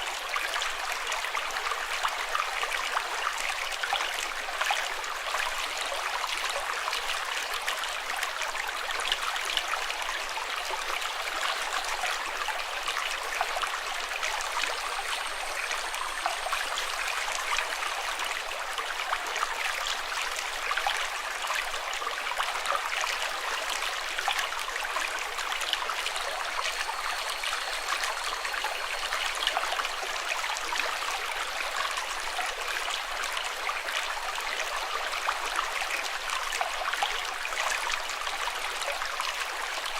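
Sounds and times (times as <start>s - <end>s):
running water with small splashes: 0.0s - 39.9s.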